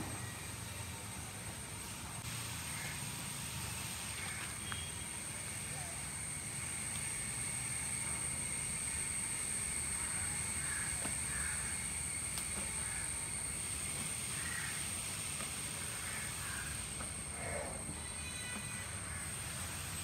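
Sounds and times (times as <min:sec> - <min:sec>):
steady high-pitched whine: 0:00.0 - 0:20.0.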